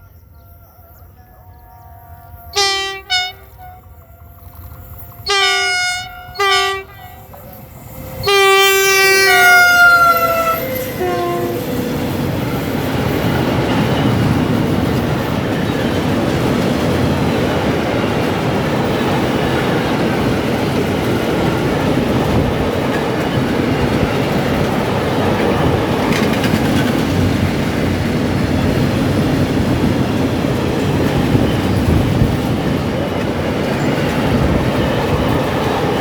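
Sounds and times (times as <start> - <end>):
freight train rolling past: 0.0 - 36.0
wheels clicking over rail joints: 3.0 - 9.0, 9.7 - 36.0.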